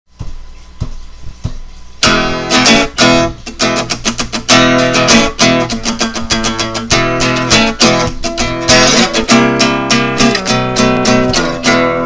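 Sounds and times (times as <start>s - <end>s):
strummed guitar track with beat: 0.1s - 12.0s
soft plucked guitar notes: 2.0s - 12.0s.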